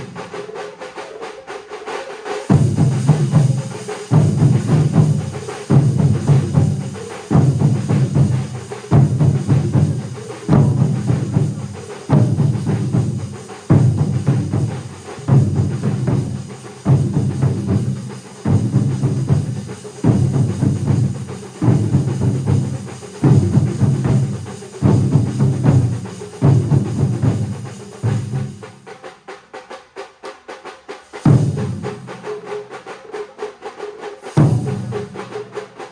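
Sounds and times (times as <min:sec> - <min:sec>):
massed drum ensemble playing: 0:02.5 - 0:29.1, 0:31.2 - 0:33.2, 0:34.2 - 0:35.9.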